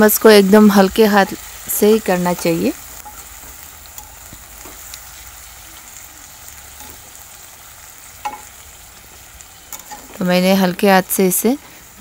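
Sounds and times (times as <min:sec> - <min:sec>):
curry sizzling in a pan: 0:00.0 - 0:12.0
spatula stirring and scraping pan: 0:00.0 - 0:12.0.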